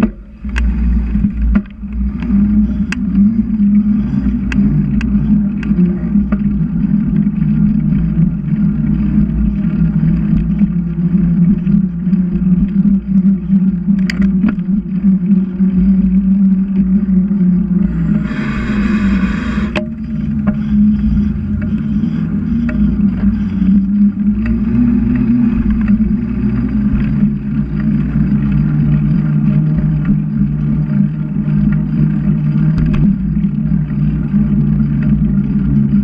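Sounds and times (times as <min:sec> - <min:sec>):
bicycle clicks and rattles: 0:00.0 - 0:18.2, 0:19.7 - 0:36.0
bicycle riding hum: 0:00.0 - 0:36.0.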